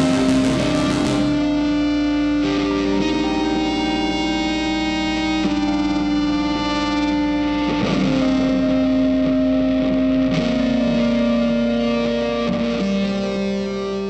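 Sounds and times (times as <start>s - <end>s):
distorted electric guitar notes: 0.0s - 14.0s.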